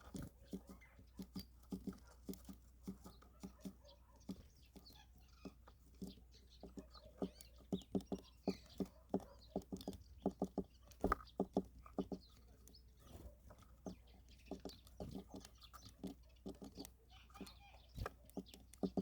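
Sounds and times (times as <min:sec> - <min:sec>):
birds pecking at food: 0:00.0 - 0:19.0.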